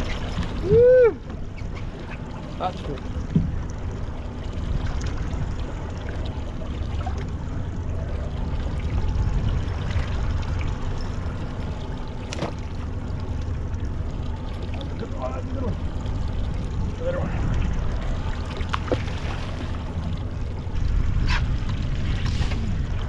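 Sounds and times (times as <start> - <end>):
water rushing along boat: 0.0 - 23.0.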